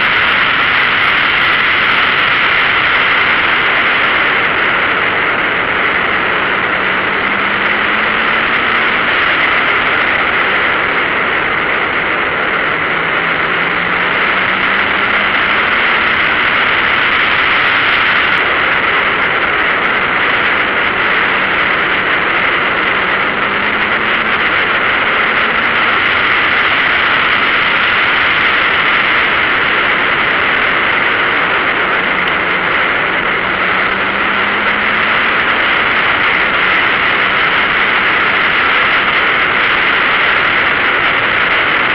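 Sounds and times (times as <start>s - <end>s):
faint car engine: 0.0s - 41.9s
road noise: 0.0s - 41.9s
wind rush: 0.0s - 41.9s.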